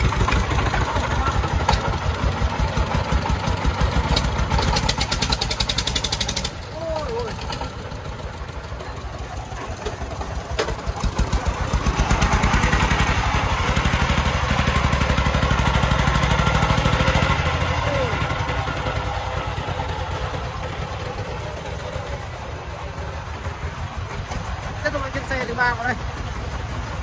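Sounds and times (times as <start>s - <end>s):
diesel engine chugging: 0.0s - 27.0s.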